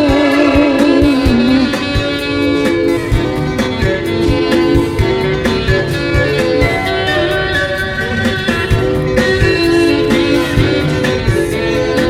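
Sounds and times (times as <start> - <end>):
guitar and synth chords: 0.0 - 12.0.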